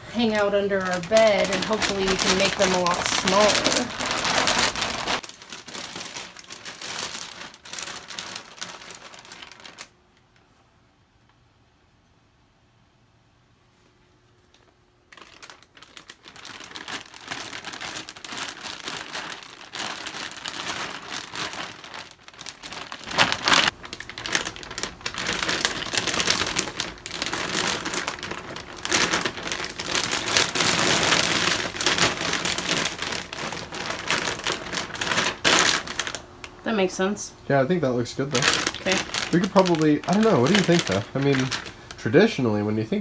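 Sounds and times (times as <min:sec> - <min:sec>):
plastic bag crinkling: 0:00.0 - 0:10.4, 0:14.5 - 0:36.8, 0:37.5 - 0:43.0.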